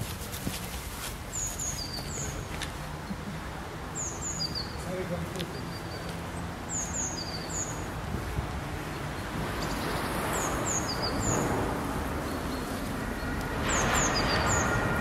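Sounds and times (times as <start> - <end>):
street traffic rumble: 0.0 - 15.0
small birds chirping: 1.3 - 3.3, 3.9 - 14.8.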